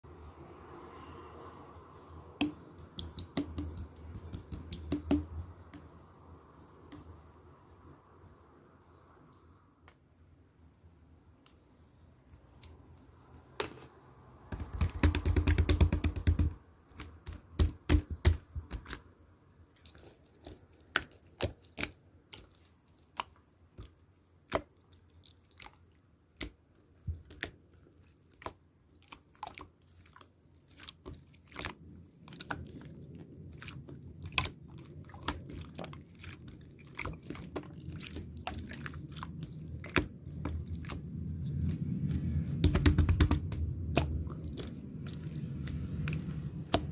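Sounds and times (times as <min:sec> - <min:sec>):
slime squelching: 0:02.0 - 0:08.4, 0:14.4 - 0:46.9.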